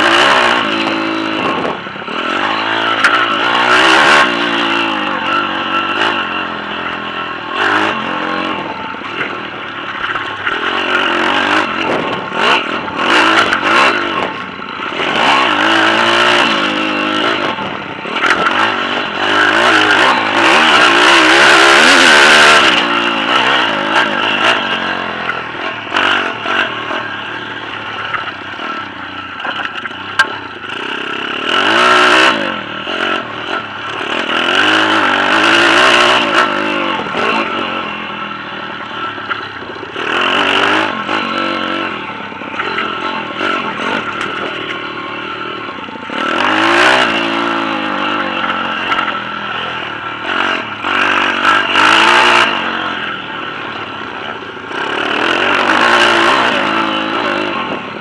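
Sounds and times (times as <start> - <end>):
motorbike engine revving: 0.0 - 58.0
rattle from rough ground: 0.0 - 58.0.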